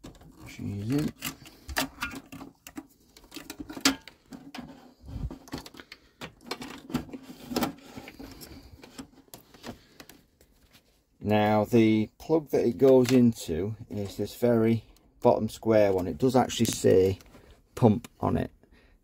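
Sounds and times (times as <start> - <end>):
hands handling cables and fittings: 0.0 - 11.2, 12.2 - 18.4.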